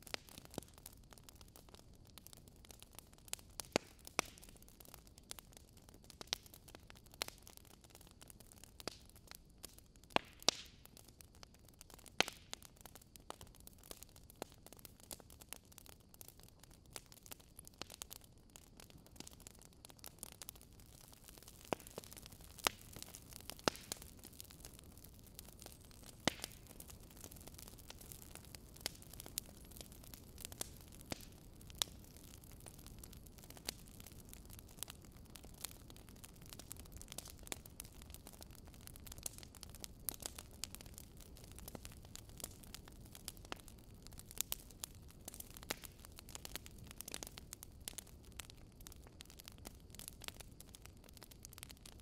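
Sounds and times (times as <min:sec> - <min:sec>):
soft steady hiss: 0:00.0 - 0:51.8
wood fire crackling: 0:00.0 - 0:52.0.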